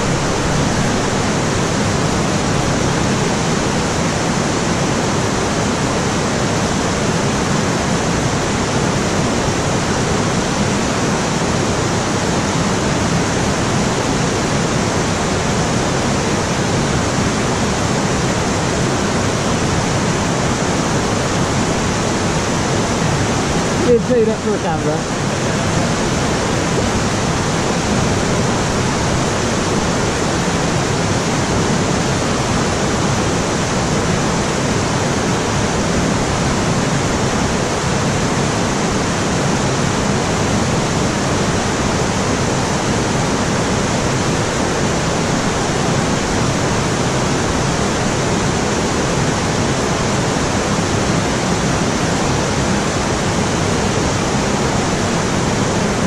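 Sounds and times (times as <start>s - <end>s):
river water pouring over weir: 0.0s - 56.0s.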